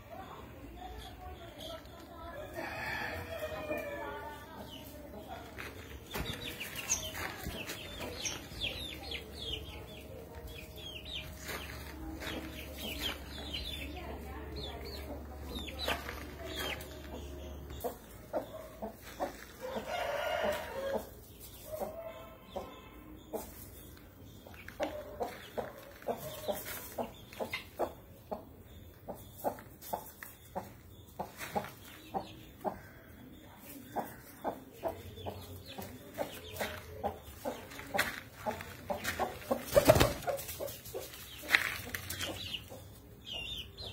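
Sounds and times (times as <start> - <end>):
chicks cheeping: 0.7 - 43.9
chicken clucks: 1.5 - 43.9.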